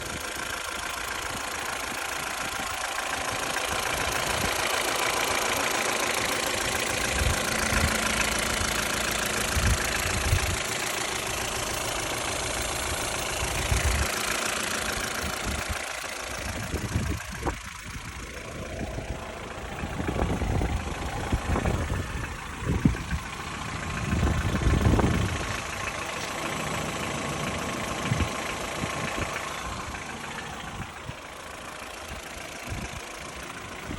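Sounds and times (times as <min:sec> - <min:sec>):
car engine knocking: 0:00.0 - 0:33.9.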